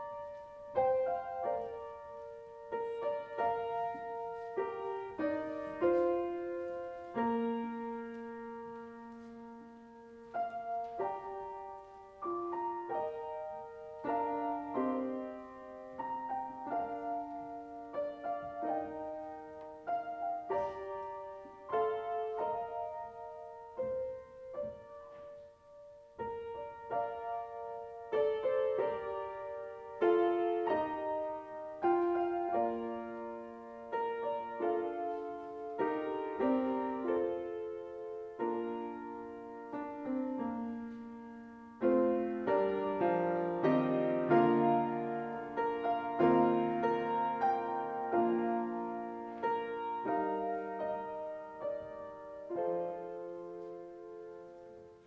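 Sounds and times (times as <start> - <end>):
solo grand piano: 0.0 - 55.0.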